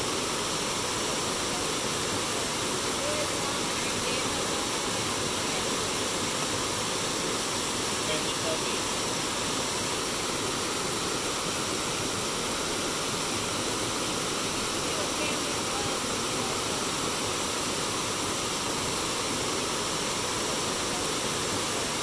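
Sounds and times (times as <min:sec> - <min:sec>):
river water running: 0:00.0 - 0:22.0.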